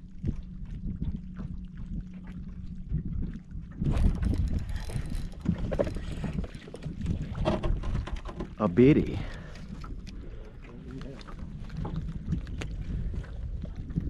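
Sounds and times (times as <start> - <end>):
water lapping at boat: 0.0 - 14.0
wind buffeting microphone: 0.0 - 14.0.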